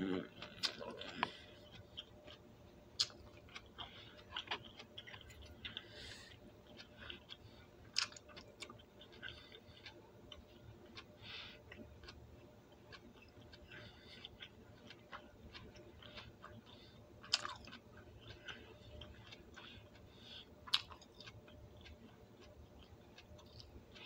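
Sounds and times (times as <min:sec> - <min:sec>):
person chewing broccoli: 0:00.1 - 0:24.0.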